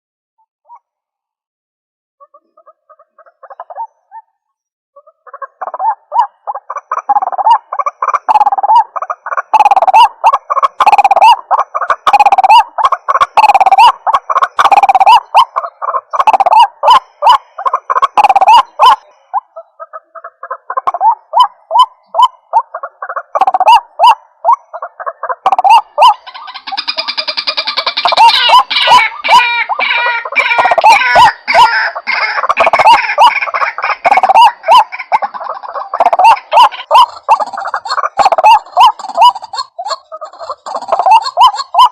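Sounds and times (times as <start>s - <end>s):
waterhen croaking calls: 2.2s - 4.4s, 5.0s - 41.9s.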